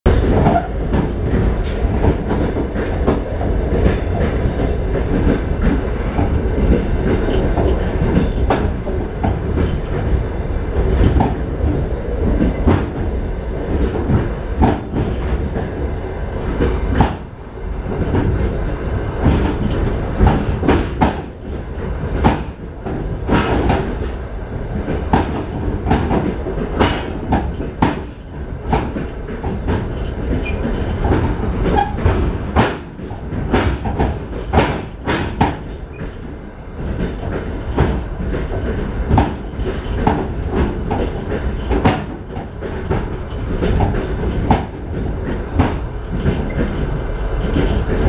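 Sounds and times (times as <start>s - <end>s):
train wheels rumbling on track: 0.0s - 48.0s
clacks and knocks: 0.1s - 48.0s.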